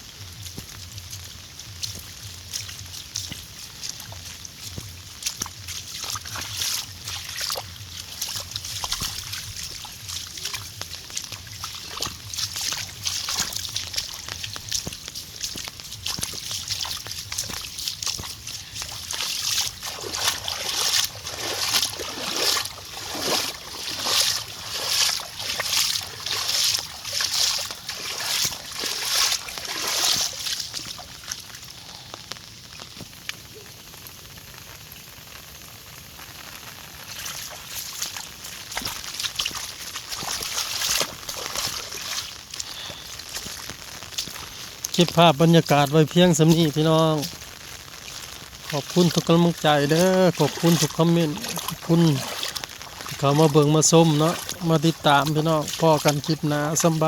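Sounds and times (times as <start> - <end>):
water sloshing and splashing: 0.0 - 32.9, 37.0 - 57.0.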